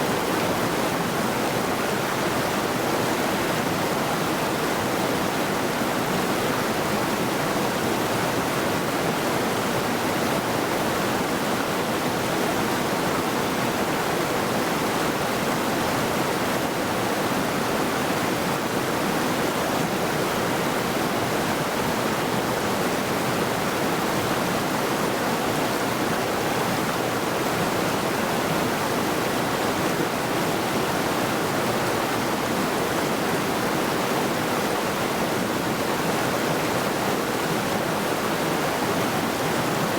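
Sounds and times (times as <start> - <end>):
river rushing over rocks: 0.1 - 39.9.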